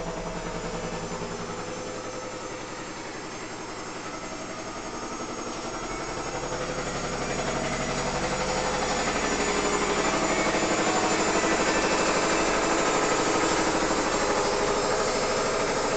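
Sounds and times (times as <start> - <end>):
pulsing machine drone: 0.0 - 15.9.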